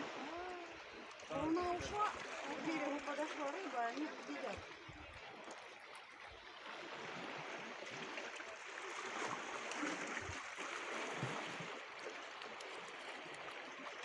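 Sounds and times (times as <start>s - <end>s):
sea water washing at shore: 0.0s - 14.0s.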